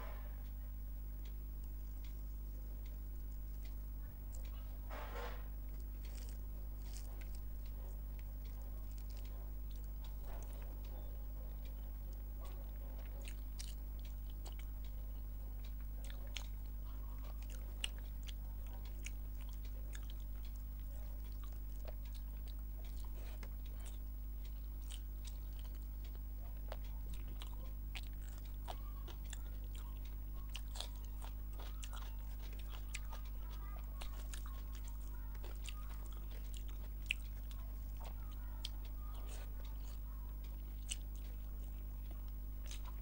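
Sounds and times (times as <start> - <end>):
low hum: 0.0 - 43.0
chewing with wet clicks: 0.4 - 4.8, 5.6 - 43.0.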